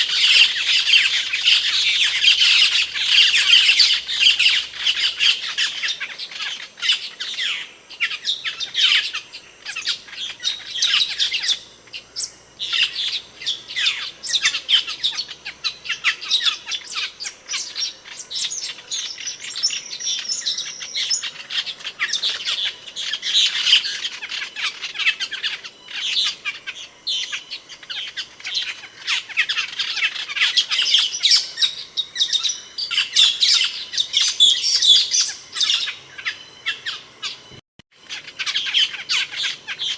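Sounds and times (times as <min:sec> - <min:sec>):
starling chirps and squawks: 0:00.0 - 0:39.9.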